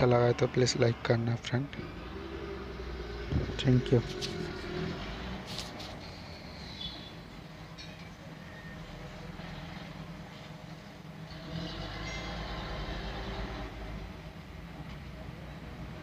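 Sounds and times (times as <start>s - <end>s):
low background rumble with hiss: 0.0s - 16.0s.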